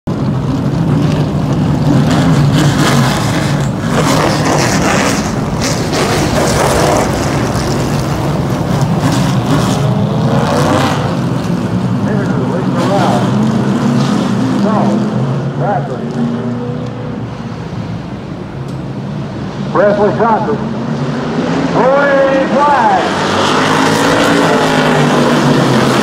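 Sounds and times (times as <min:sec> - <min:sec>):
race truck engines droning past: 0:00.1 - 0:26.0.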